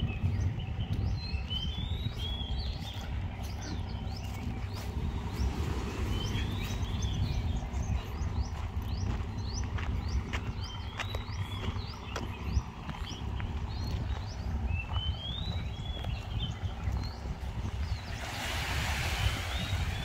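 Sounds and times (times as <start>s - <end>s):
constant low rumble: 0.0s - 20.0s
small birds chirping: 0.0s - 20.0s.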